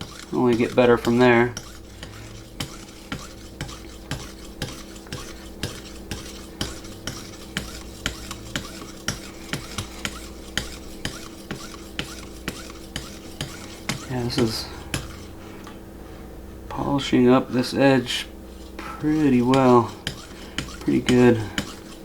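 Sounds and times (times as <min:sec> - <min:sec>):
sharpener stroking knife edge: 0:00.0 - 0:15.3, 0:18.5 - 0:22.0.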